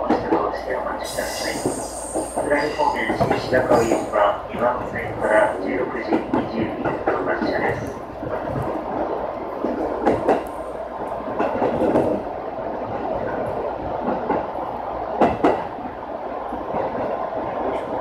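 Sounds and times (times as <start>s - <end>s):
train motors and wheels rumbling: 0.0s - 18.0s.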